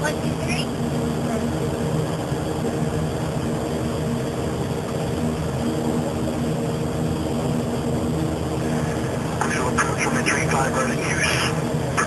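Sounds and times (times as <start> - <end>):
propeller airplane engines droning: 0.0 - 12.0.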